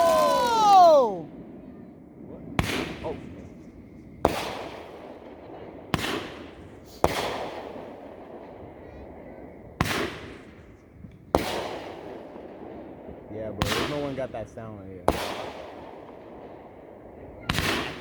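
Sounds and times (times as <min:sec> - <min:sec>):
firework bangs with echo: 0:00.0 - 0:18.0.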